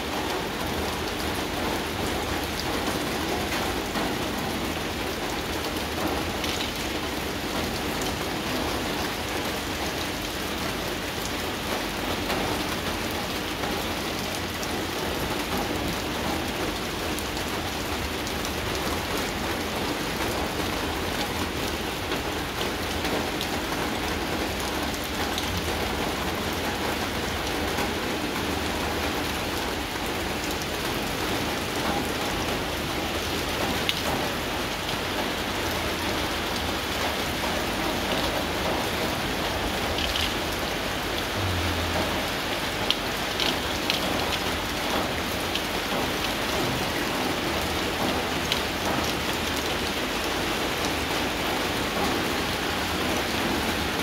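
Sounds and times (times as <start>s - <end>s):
rain on leaves: 0.0s - 54.0s.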